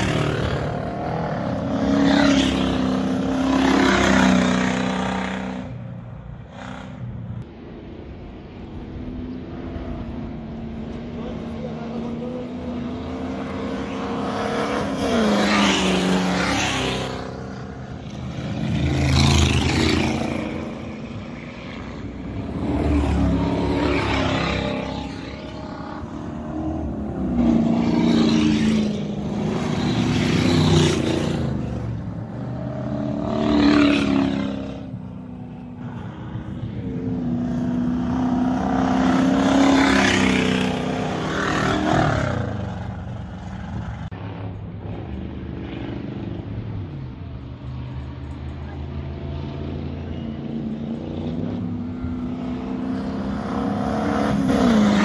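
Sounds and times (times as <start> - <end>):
race cars passing at speed: 0.0 - 55.0.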